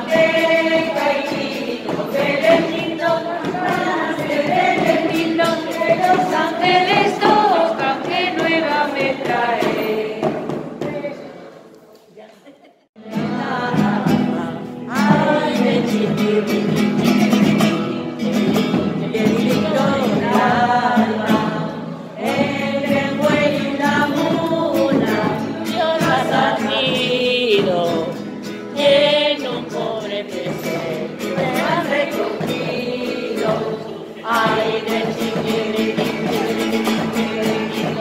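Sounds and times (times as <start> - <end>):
classical guitar: 0.0 - 11.2, 13.0 - 38.0
woman singing: 0.0 - 11.3, 13.0 - 38.0.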